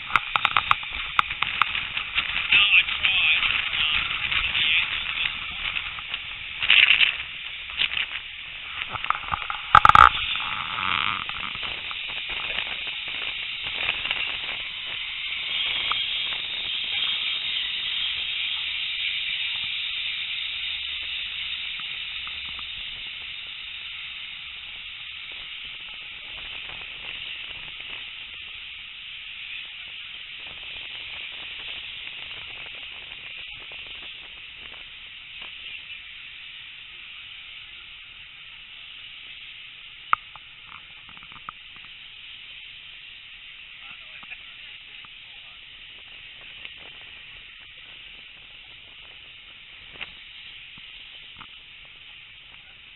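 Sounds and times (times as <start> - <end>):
wind and rail noise: 0.0 - 52.9.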